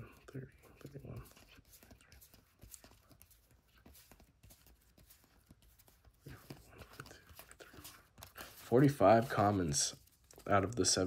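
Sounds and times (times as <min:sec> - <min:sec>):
trading cards ticking and sliding: 0:00.0 - 0:11.0.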